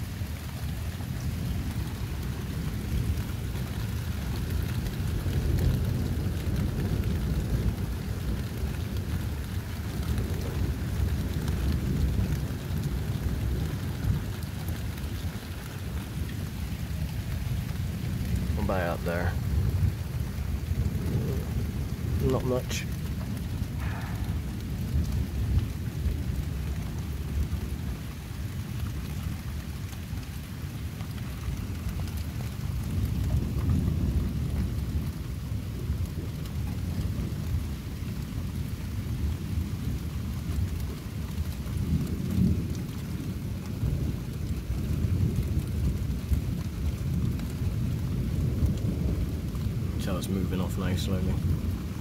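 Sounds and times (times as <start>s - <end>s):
falling rain: 0.0s - 52.0s
thunder rumbling: 0.0s - 52.0s.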